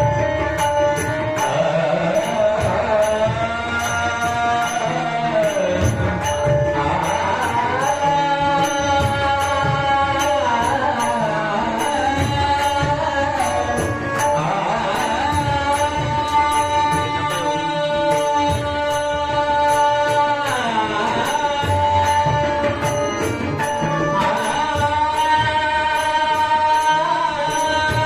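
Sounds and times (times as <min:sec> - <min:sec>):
devotional song melody: 0:00.0 - 0:28.0.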